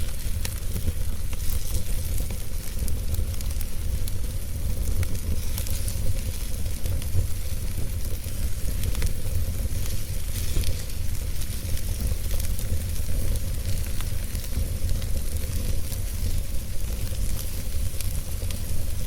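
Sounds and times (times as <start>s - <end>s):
fire crackles and pops: 0.0s - 19.0s
fire hissing: 0.0s - 19.0s
low fire rumble: 0.0s - 19.0s.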